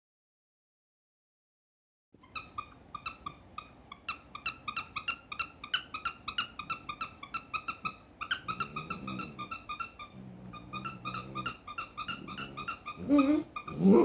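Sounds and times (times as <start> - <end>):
squeaky toy squeaking: 2.2 - 13.9.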